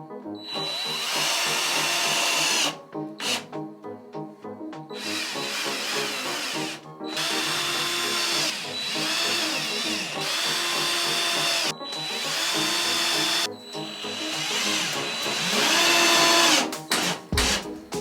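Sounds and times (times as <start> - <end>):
power drill whining: 0.4 - 3.5, 4.9 - 17.8.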